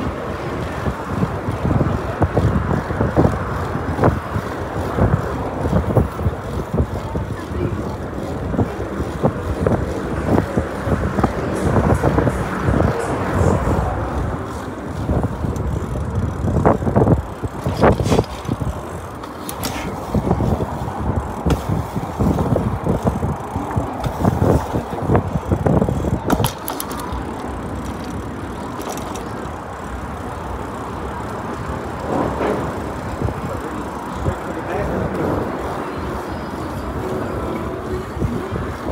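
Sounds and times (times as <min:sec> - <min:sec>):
bike knocks and rattles: 0:00.0 - 0:35.2
bike tyres rumbling on pavement: 0:00.0 - 0:38.9.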